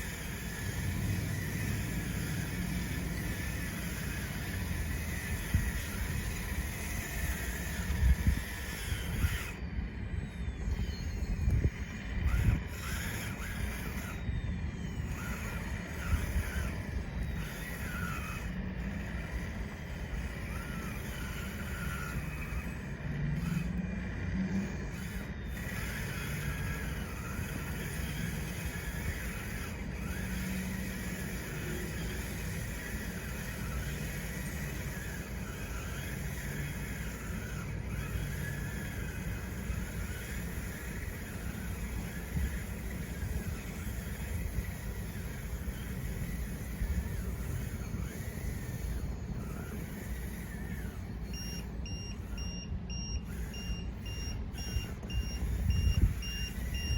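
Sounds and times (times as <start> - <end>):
electric motors and gearboxes whining: 0.0 - 56.9.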